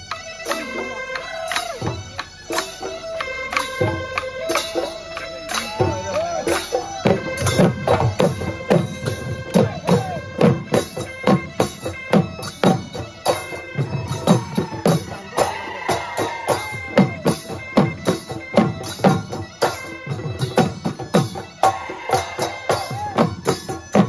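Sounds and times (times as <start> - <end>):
drums beaten in rhythm: 0.0 - 24.0
wind instrument long notes: 0.0 - 24.0.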